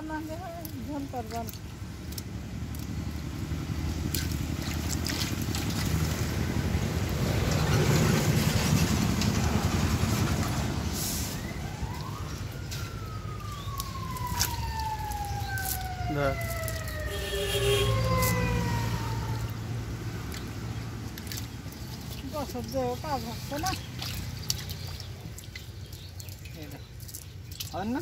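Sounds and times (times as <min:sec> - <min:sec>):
passing vehicle engine rumble: 0:00.0 - 0:26.9.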